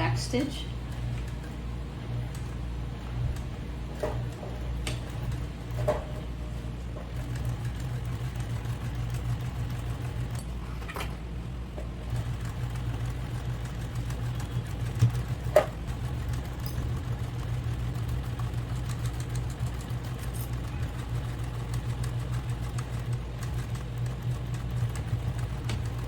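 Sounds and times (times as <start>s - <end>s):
sewing machine running: 0.0s - 26.0s.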